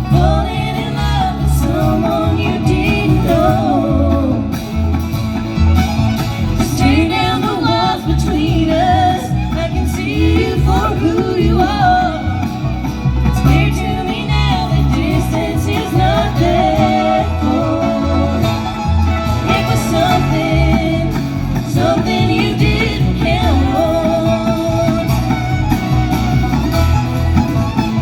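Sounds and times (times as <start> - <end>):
bluegrass band playing: 0.0 - 28.0.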